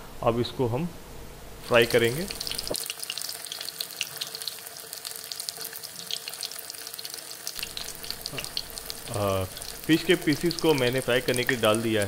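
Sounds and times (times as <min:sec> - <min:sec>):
fish sizzling in hot oil: 0:01.6 - 0:12.0.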